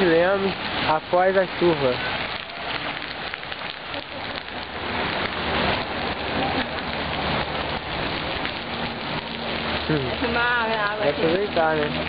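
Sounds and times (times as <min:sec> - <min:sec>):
floodwater rushing: 0:00.0 - 0:12.0
steady rain falling: 0:00.0 - 0:12.0.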